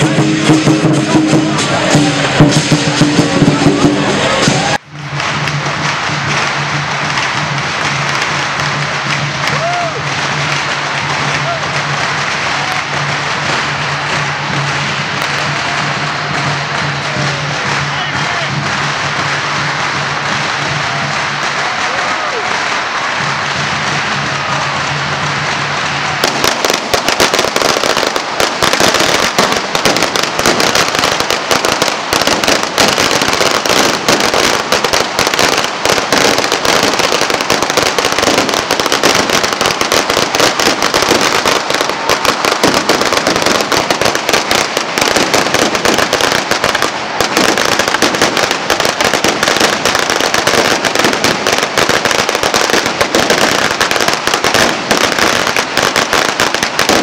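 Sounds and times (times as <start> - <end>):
firecrackers crackling: 0.0 - 57.0.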